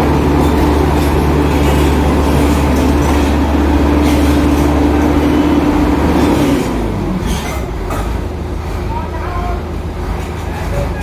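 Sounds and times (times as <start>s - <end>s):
diesel earthmoving machinery running: 0.0s - 11.0s.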